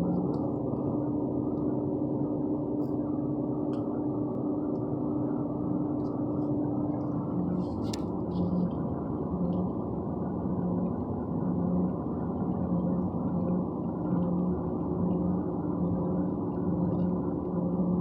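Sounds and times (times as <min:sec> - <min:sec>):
steady humming drone: 0:00.0 - 0:18.0.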